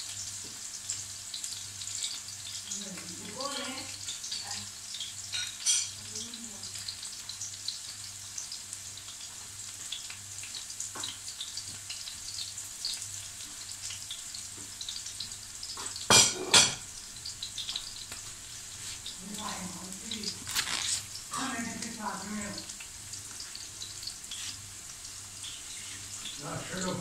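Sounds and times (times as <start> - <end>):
garlic and onion frying: 0.0 - 27.0.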